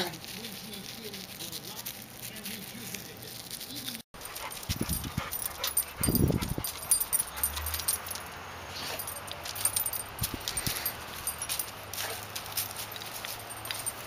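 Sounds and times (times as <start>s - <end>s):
dog tags jingling: 0.0s - 14.0s.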